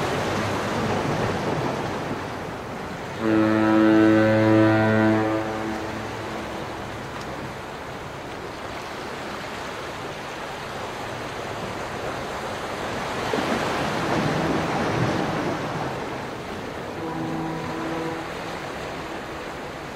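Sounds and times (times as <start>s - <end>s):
ocean surf washing in: 0.0s - 19.9s.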